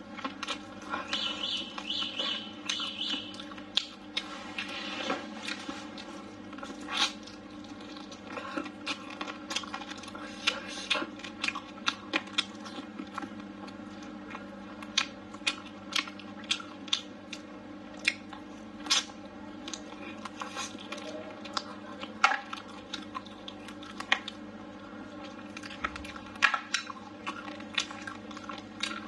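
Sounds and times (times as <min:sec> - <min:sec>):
faint steady hum: 0:00.0 - 0:29.0
chewing and mouth smacks: 0:00.1 - 0:29.0.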